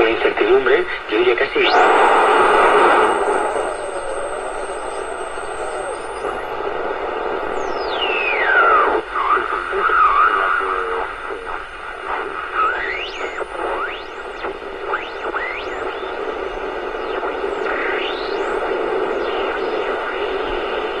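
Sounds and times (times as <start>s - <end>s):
radio static hiss: 0.0s - 21.0s
radio whistles sliding in pitch: 1.6s - 21.0s.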